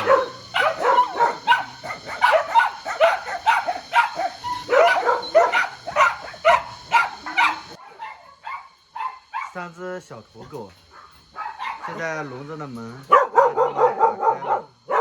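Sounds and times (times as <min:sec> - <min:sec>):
dogs barking: 0:00.0 - 0:09.7, 0:10.8 - 0:15.0.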